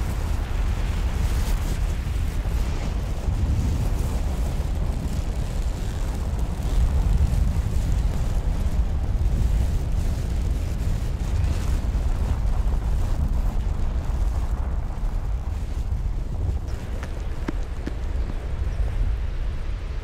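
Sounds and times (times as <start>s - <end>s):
deep rumble: 0.0s - 20.0s
fire sizzling: 0.0s - 20.0s.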